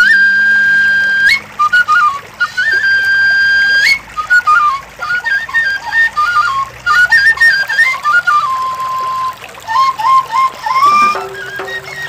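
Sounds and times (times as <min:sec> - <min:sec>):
flute-like melody: 0:00.0 - 0:12.0.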